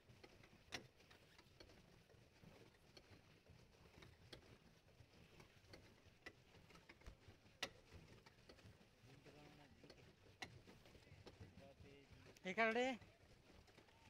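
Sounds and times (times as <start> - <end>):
faint clicks and taps: 0.0 - 14.0.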